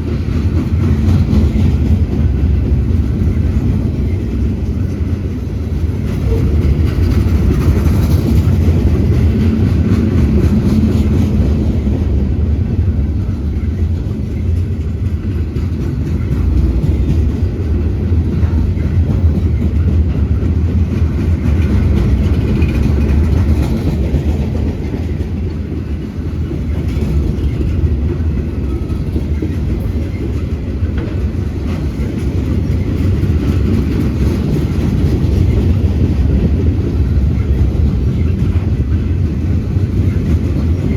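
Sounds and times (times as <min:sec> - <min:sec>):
wheels clicking over rail joints: 0:00.0 - 0:12.4, 0:13.0 - 0:40.9
freight train rumbling past: 0:00.0 - 0:40.9.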